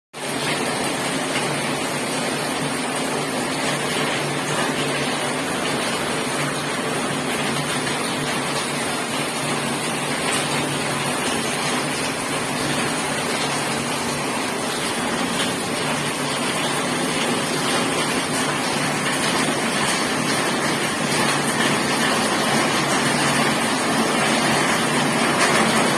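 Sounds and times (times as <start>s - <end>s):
heavy rain pouring: 0.2s - 25.9s.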